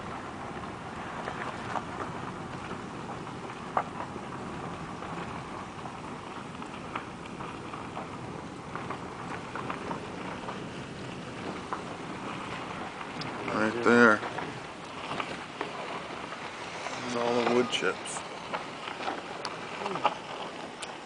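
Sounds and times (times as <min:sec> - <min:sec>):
vehicle driving on dirt road: 0:00.0 - 0:21.0.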